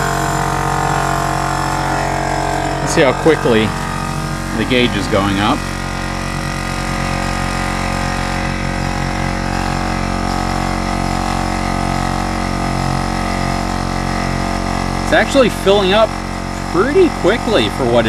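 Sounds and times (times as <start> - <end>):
air compressor droning: 0.0 - 18.0.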